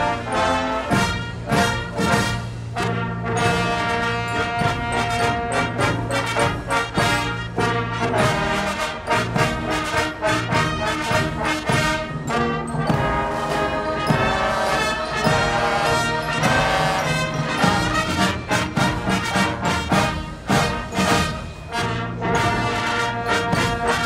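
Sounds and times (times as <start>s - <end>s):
brass chords: 0.0s - 24.0s
timpani: 0.0s - 24.0s
snare drum strokes: 0.7s - 24.0s
drum kit: 0.9s - 21.7s.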